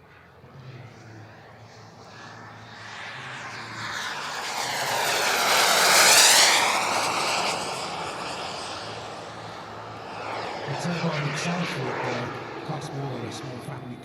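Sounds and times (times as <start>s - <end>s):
jet engine whine flying past: 0.0s - 14.0s.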